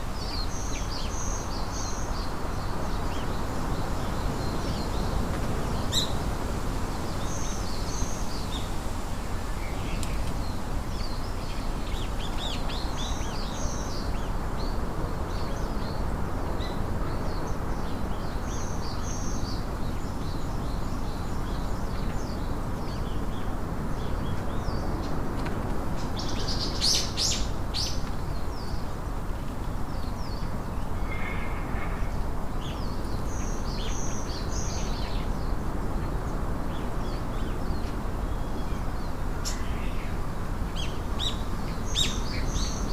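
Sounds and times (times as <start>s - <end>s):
small birds chirping: 0.0s - 8.8s, 9.4s - 42.9s
low background noise: 0.0s - 42.9s.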